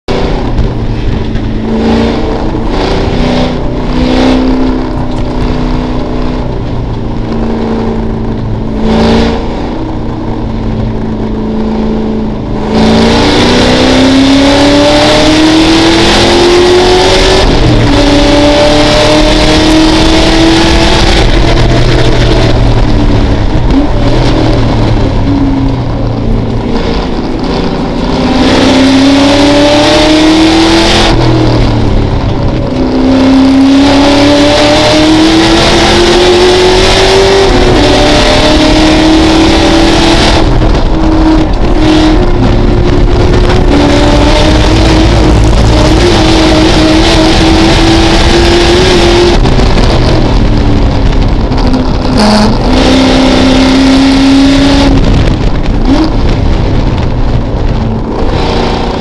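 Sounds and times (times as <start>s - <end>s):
race car engine revving: 0.1s - 59.0s
wind and road noise: 0.1s - 59.0s.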